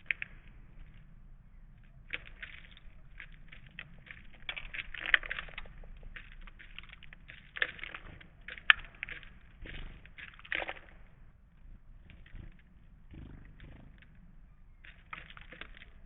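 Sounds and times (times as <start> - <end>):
birds pecking and cracking seed: 0.0 - 16.0.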